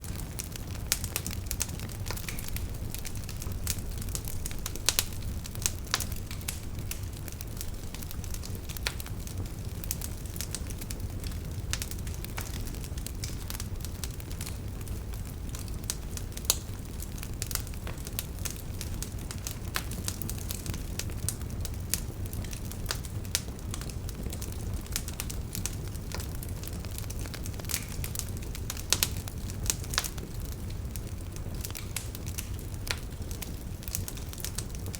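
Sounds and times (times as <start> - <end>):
campfire crackling and popping: 0.0 - 34.9
low rumble of flames: 0.0 - 34.9.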